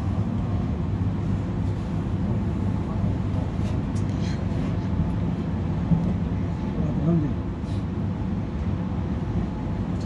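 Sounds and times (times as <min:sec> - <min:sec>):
train interior rumble: 0:00.0 - 0:10.0.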